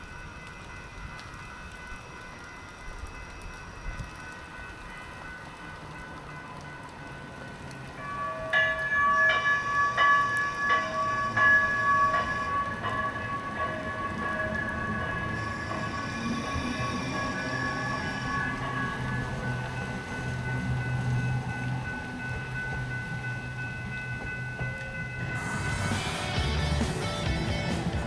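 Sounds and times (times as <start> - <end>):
rain hiss: 0.0 - 21.8, 25.2 - 28.0
train warning bell ringing: 0.0 - 27.6
train rumble: 0.0 - 28.0.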